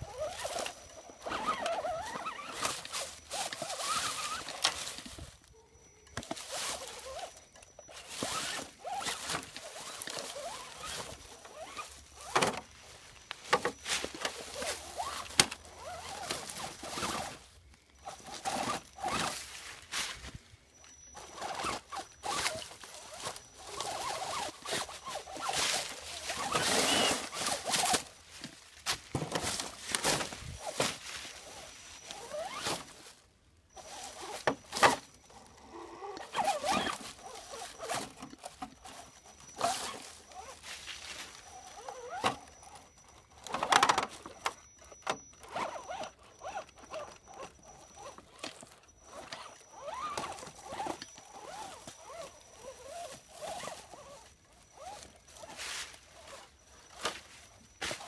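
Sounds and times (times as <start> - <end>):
leaves crackling under tyres: 0.0 - 58.0
small electric motor whining: 0.0 - 58.0.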